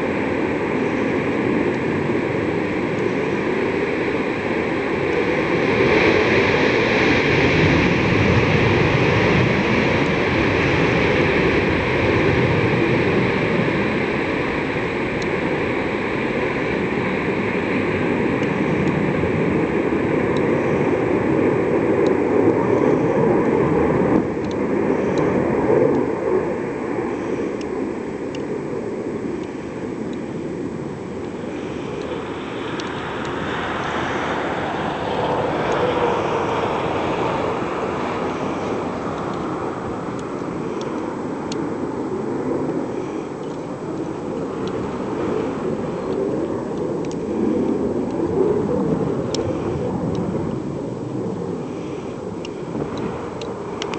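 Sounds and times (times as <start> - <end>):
jet engines roaring at takeoff: 0.0 - 53.9.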